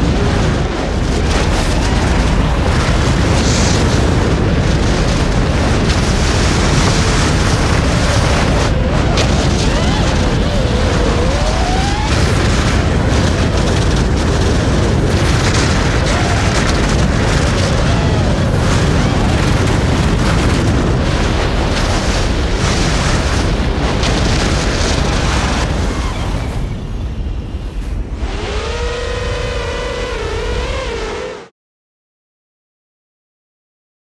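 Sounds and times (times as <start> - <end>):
drone motors whining: 0.0 - 20.8, 21.5 - 31.5
skis carving snow: 0.0 - 31.1
wind rushing: 0.0 - 31.4.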